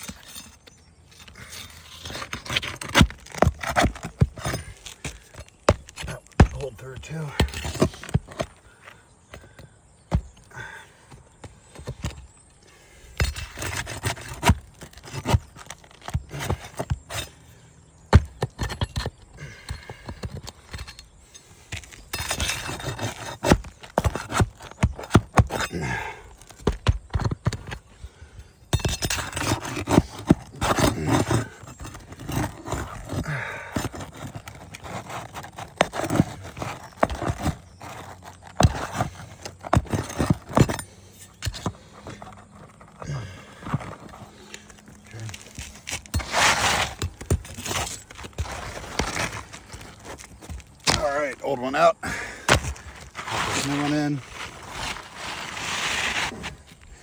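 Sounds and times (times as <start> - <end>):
scraping on shingles: 0.0 - 57.0.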